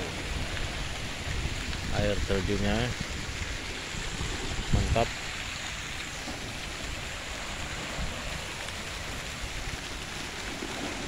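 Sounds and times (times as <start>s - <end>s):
small waterfall pouring over rocks: 0.0s - 11.0s
small waves washing around rocks: 0.0s - 11.0s.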